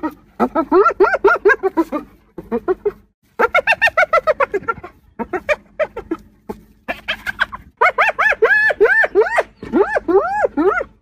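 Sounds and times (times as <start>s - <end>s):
hyena giggling: 0.0s - 11.0s.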